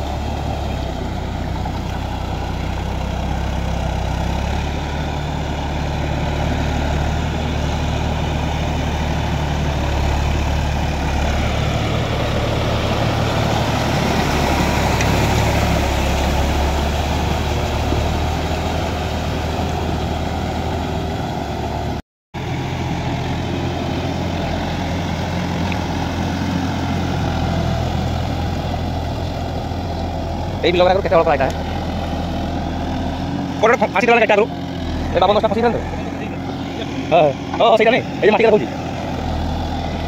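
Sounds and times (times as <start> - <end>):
tiller blades churning mud: 0.0 - 40.0
tractor diesel engine running: 0.0 - 40.0.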